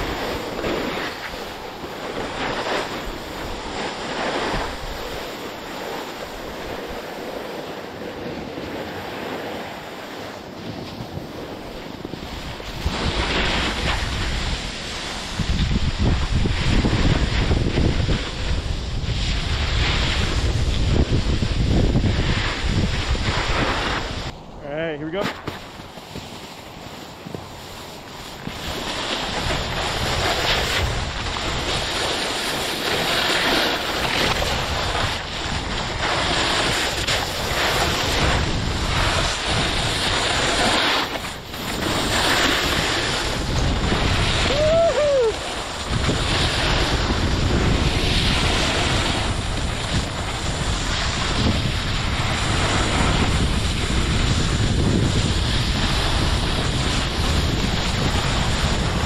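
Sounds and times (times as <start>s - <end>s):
wind buffeting microphone: 0.0s - 7.4s, 8.2s - 59.0s
skis hissing over snow: 0.0s - 59.0s.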